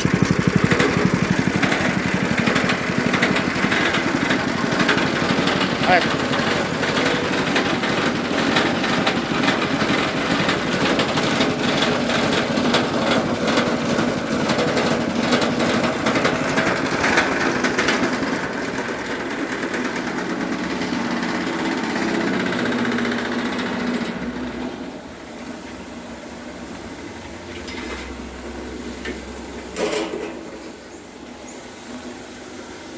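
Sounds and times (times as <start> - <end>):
feed chopper machine running: 0.0 - 30.8.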